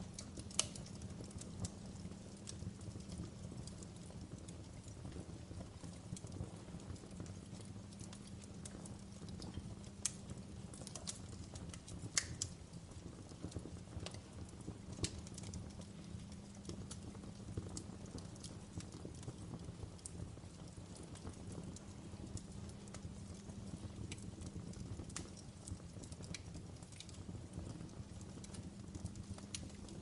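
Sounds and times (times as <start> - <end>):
fire burning with crackles and pops: 0.0 - 30.0.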